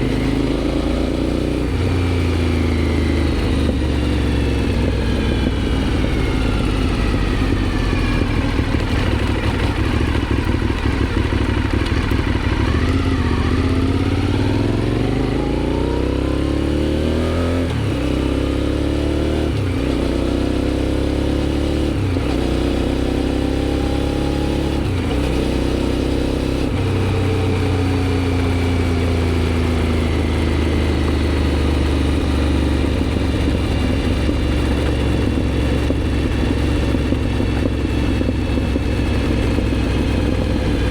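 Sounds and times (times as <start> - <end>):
motorcycle engine accelerating through gears: 0.0 - 40.9.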